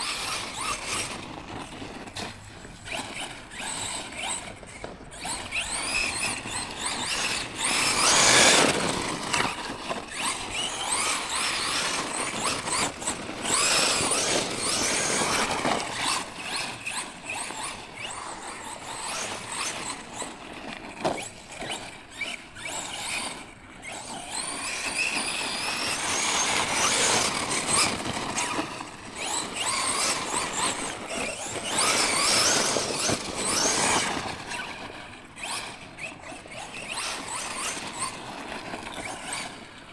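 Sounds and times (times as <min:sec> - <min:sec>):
electric motor whining: 0:00.0 - 0:39.9
tyres on dirt and gravel: 0:00.0 - 0:39.9.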